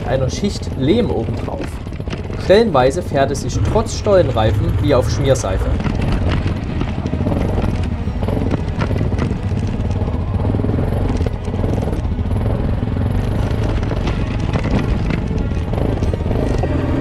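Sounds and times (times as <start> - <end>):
knocks over rough ground: 0.0 - 17.0
motorcycle engine at low revs: 0.0 - 17.0.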